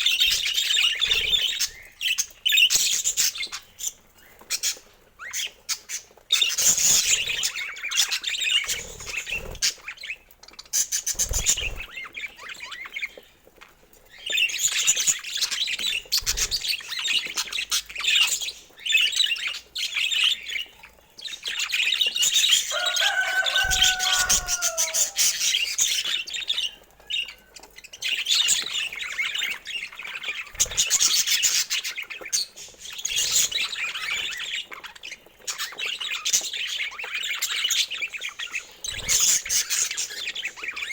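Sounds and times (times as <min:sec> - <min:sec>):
budgerigars chattering and chirping: 0:00.0 - 0:13.3, 0:14.2 - 0:40.9.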